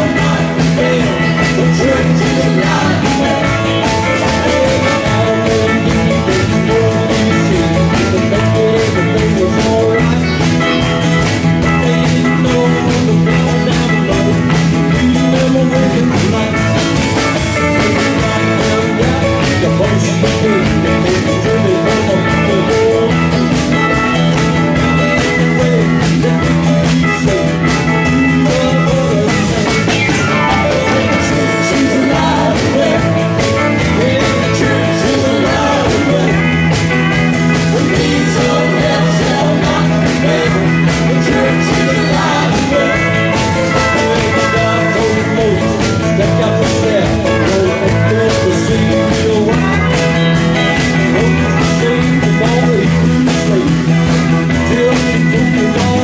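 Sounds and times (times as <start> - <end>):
drum kit: 0.0 - 56.0
electric guitars: 0.0 - 56.0.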